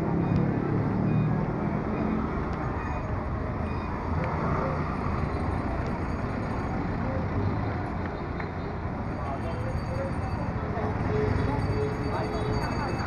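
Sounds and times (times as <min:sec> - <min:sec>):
scooter traffic: 0:00.0 - 0:13.0.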